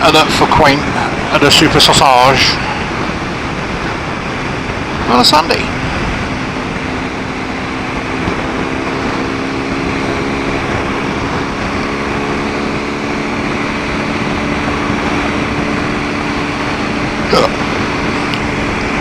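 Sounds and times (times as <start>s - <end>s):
motorcycle engine cruising: 0.0s - 19.0s
wind and road rush: 0.0s - 19.0s.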